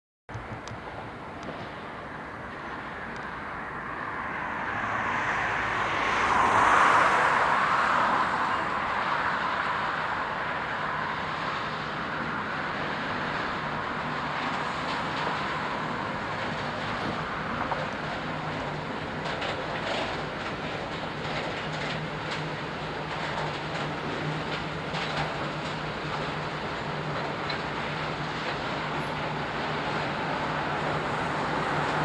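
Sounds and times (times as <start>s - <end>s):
train passing on rails: 0.3s - 32.0s.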